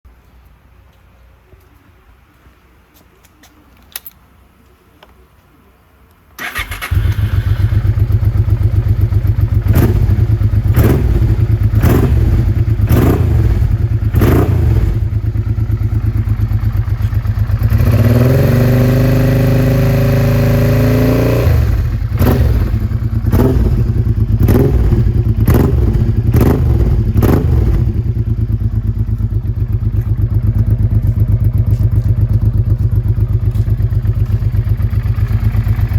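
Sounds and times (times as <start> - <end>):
motorcycle engine starting and idling: 6.4 - 35.9.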